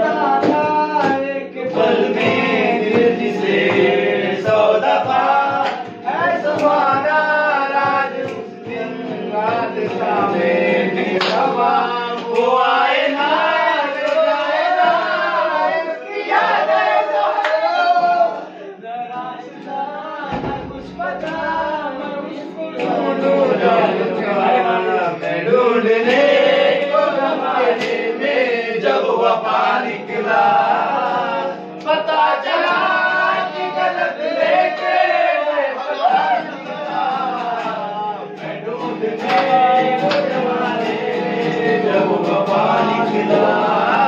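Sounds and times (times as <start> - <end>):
men singing together: 0.0 - 44.0
strummed acoustic guitar: 0.0 - 44.0.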